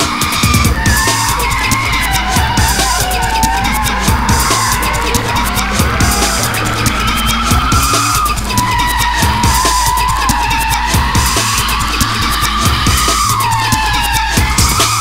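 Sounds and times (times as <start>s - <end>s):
car tyres squealing: 0.0s - 15.0s.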